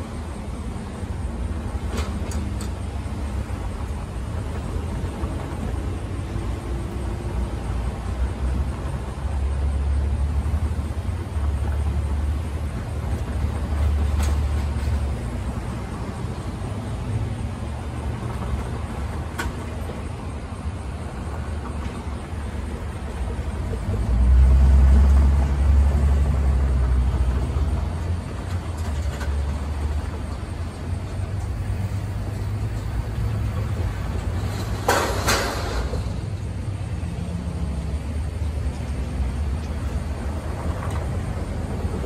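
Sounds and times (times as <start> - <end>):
traffic driving past: 0.0 - 42.0.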